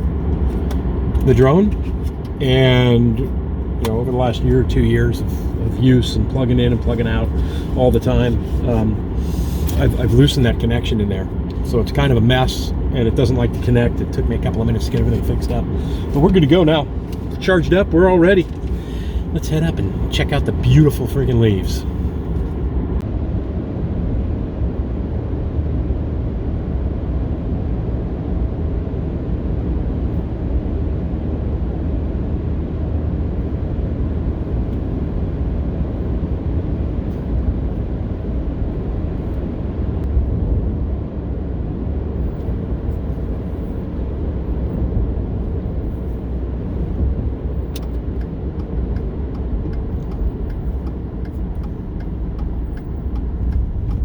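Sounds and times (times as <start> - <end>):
vehicle road noise rumble: 0.0 - 54.0.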